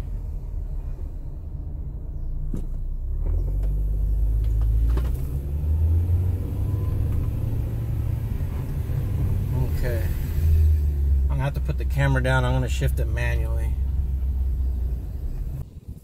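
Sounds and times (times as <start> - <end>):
engine and road rumble in car: 0.0 - 16.0.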